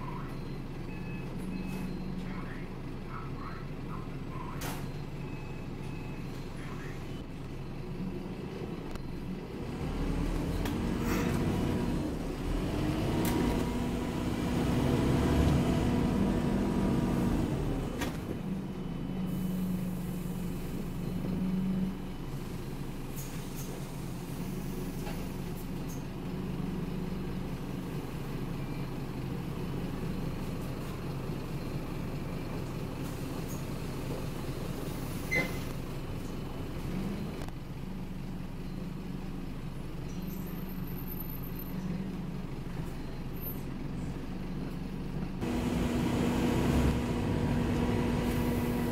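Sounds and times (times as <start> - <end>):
bus diesel engine hum: 0.0 - 48.9.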